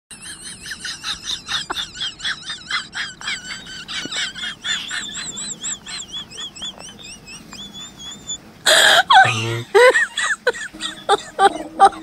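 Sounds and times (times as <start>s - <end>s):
birds chirping high-pitched calls: 0.1s - 11.9s.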